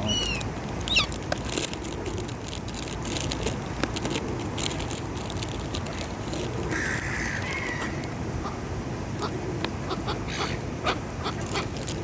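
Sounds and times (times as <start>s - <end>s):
crowd of feeding birds: 0.0s - 12.0s.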